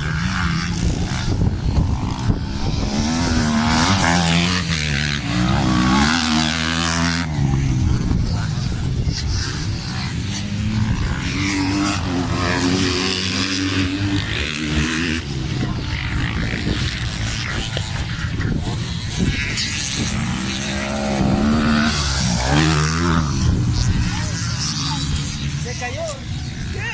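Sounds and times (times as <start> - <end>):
racing motorcycle engines revving: 0.0 - 26.9.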